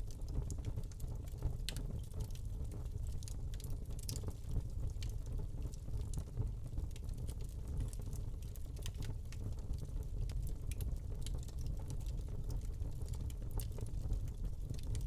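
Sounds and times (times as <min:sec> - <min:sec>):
log fire crackling: 0:00.0 - 0:15.0
low rumble of flames: 0:00.0 - 0:15.0.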